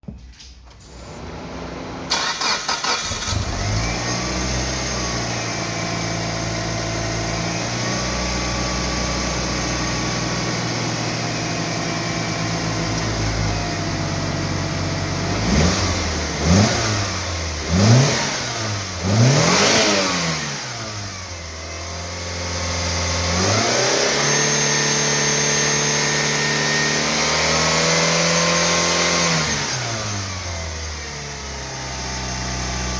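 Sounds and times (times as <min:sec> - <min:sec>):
car engine starting and revving: 0:00.8 - 0:32.9.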